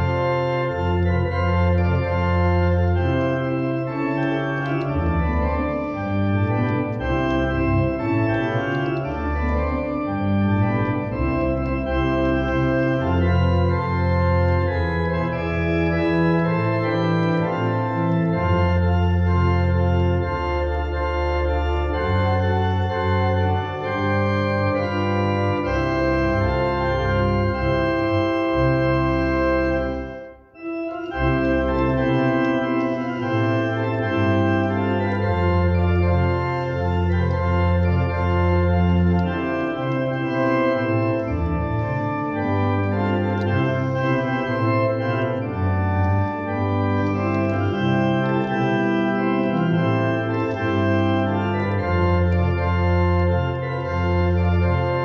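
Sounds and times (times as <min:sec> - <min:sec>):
church organ playing a hymn: 0:00.0 - 0:55.0.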